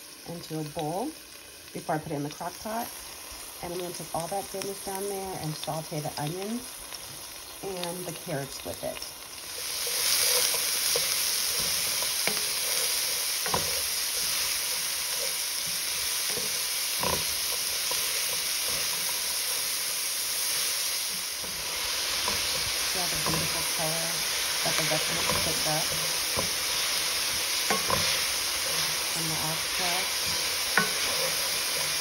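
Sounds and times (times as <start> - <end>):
vegetables sizzling in oil: 0.0 - 32.0.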